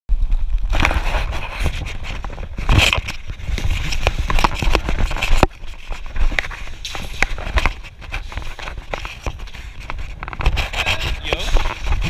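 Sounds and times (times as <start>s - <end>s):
footsteps on wooden planks: 0.7s - 12.0s.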